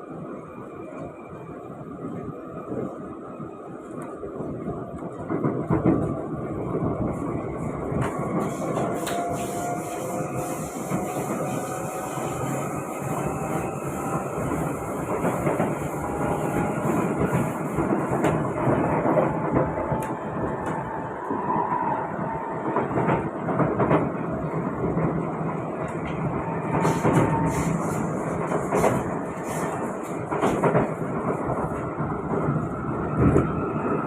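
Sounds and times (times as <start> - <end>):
train wheels rumbling on rail: 0.0 - 34.0
train clacks: 5.0 - 34.0.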